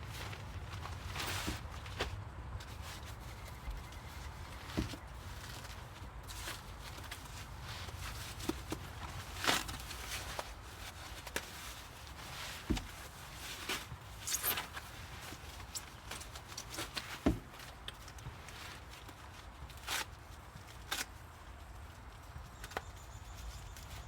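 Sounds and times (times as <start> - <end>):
rustling: 0.0 - 24.0.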